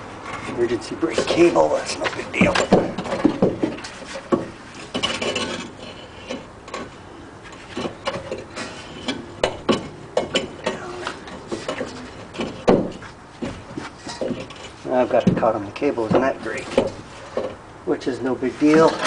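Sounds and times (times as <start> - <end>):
metal knocks clunks and scraping: 0.0 - 17.7, 18.3 - 19.0.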